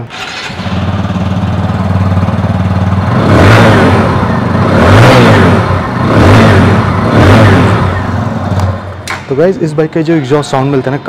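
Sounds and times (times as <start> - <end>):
motorcycle engine idling and revving: 0.0 - 9.2.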